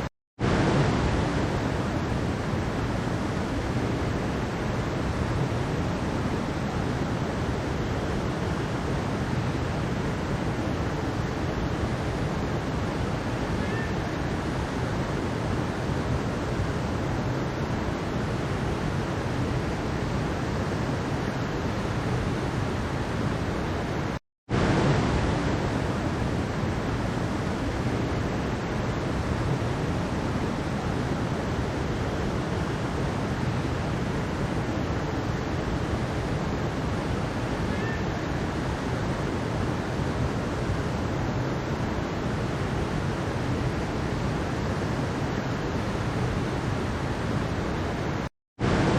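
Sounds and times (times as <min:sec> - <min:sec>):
stream water rushing: 0:00.0 - 0:48.9.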